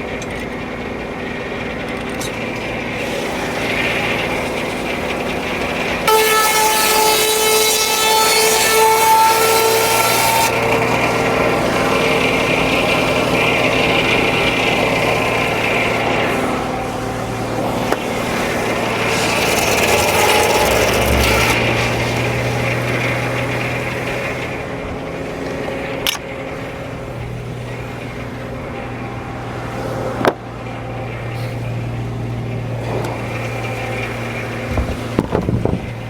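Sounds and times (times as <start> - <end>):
saw whine with hiss: 0.0 - 36.0
sawmill low drone: 0.0 - 36.0.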